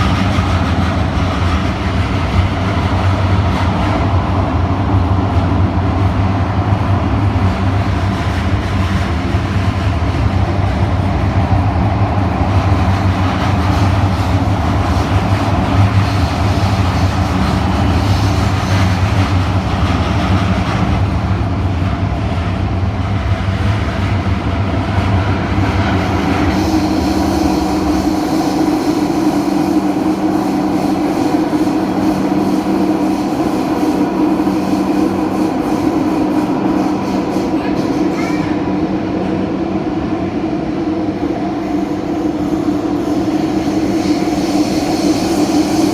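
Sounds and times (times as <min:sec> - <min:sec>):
metro train running: 0:00.0 - 0:45.9.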